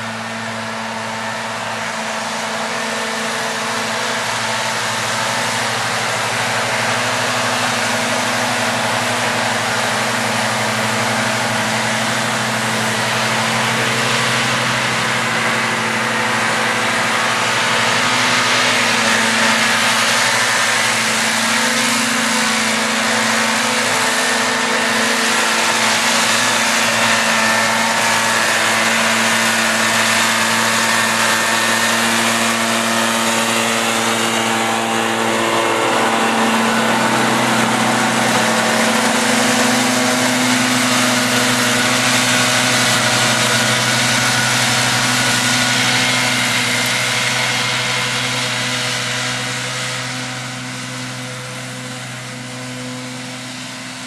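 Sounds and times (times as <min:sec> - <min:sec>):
disc mowers whirring: 0:00.0 - 0:54.0
tractor diesel engine running: 0:00.0 - 0:54.0.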